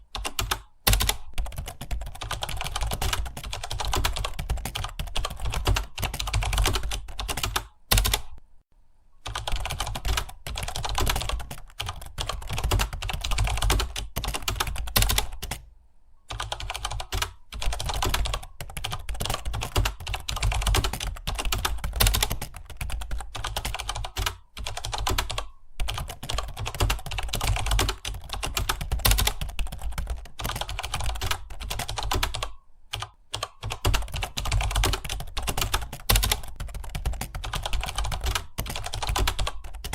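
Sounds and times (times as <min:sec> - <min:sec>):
fast keyboard typing: 0:00.0 - 0:08.4, 0:09.2 - 0:15.7, 0:16.3 - 0:39.9.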